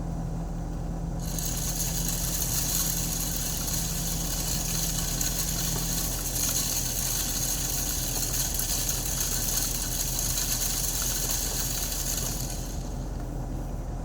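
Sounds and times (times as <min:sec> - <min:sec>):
low engine hum: 0:00.0 - 0:14.0
high-pitched rattling buzz: 0:01.2 - 0:13.2.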